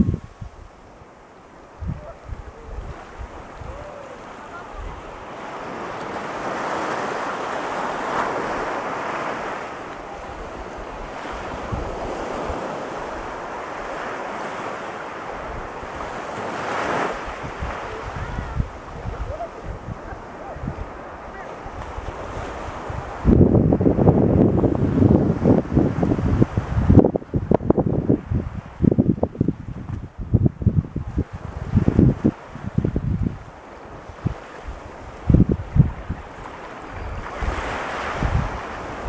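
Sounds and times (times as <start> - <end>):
surf breaking on sandy beach: 0.0 - 39.0
wind buffeting microphone: 0.0 - 39.0.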